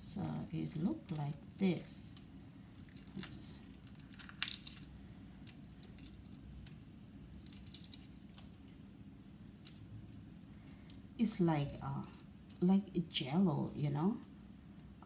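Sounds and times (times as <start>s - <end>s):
steady low hum: 0.0s - 15.0s
eggshell clicking and crackling: 0.5s - 12.7s, 13.6s - 15.0s.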